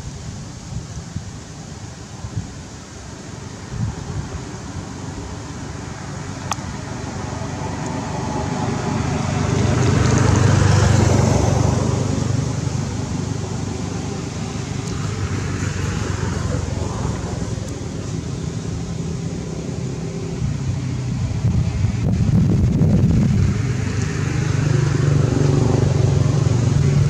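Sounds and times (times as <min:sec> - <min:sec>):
motor vehicle passing: 0:04.1 - 0:27.0.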